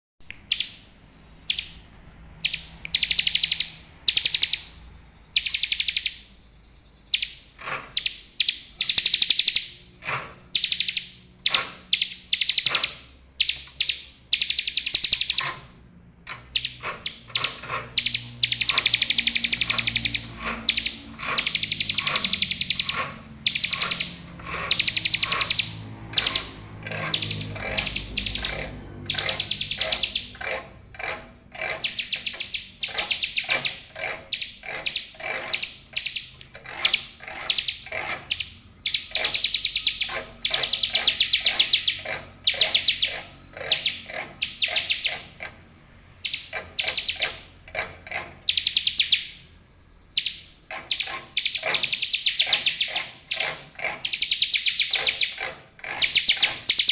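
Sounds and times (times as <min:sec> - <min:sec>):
bird singing chattering trills: 0:00.3 - 0:45.5, 0:46.1 - 0:56.9.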